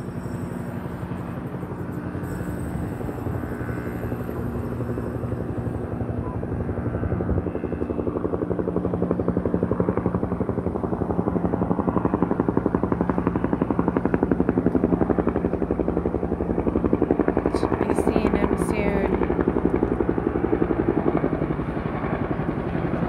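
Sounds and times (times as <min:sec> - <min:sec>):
helicopter rotor beating: 0:00.0 - 0:23.0.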